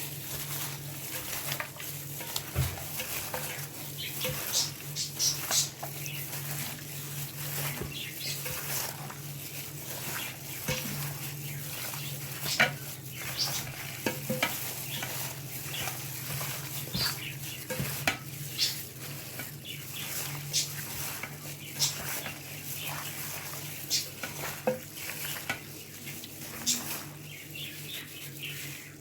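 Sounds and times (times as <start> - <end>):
curry sizzling in a pan: 0.0 - 29.0
spoon stirring and knocking pan: 0.4 - 27.2.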